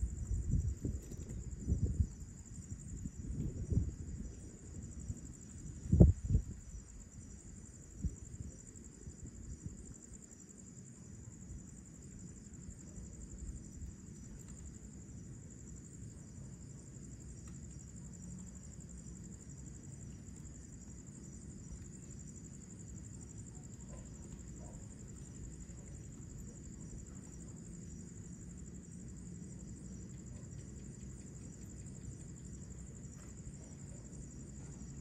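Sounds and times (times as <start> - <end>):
crickets and insects chorus: 0.0 - 35.0.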